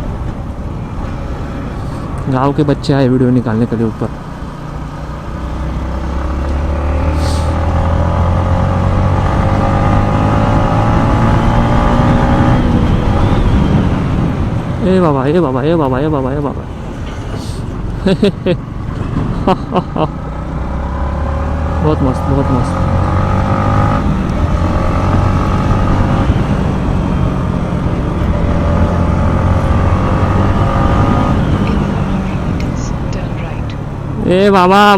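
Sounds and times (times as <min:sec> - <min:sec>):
motorcycle engine accelerating: 0:02.1 - 0:15.6, 0:18.4 - 0:34.9.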